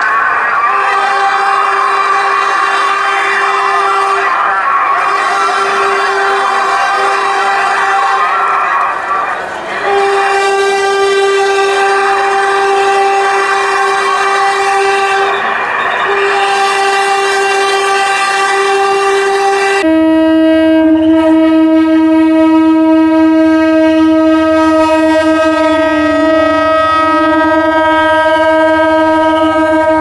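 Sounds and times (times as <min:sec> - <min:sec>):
locomotive horn: 0:00.0 - 0:30.0.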